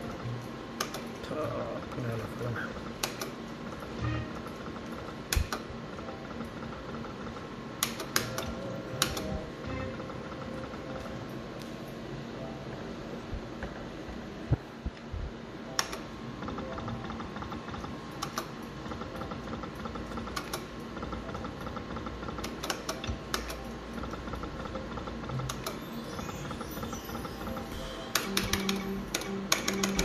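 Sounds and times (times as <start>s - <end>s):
slot machine reels clicking: 0.0s - 11.2s, 15.7s - 30.0s.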